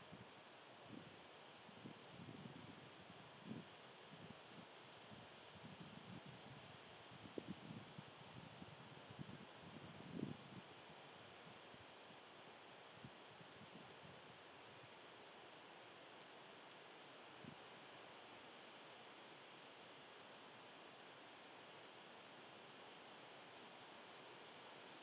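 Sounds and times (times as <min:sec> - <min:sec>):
outdoor hiss: 0:00.0 - 0:25.0.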